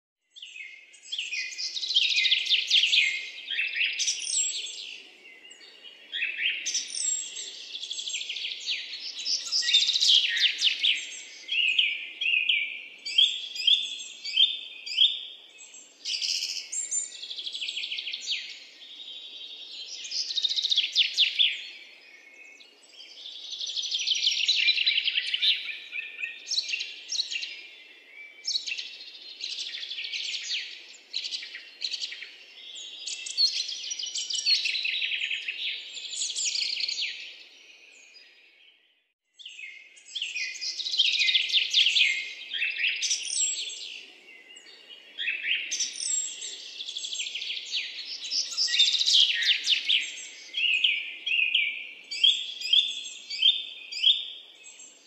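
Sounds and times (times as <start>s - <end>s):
birds chirping and trilling: 0.2s - 55.0s.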